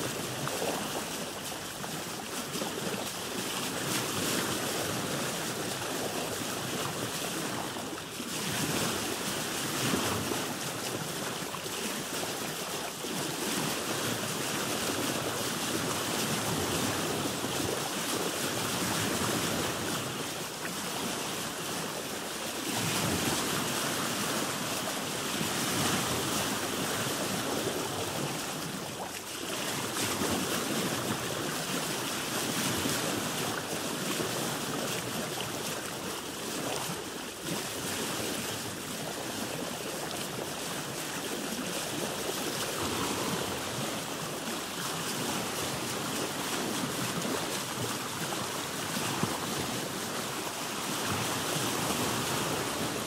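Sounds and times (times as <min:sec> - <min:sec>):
sea waves splashing around boat: 0:00.0 - 0:53.0.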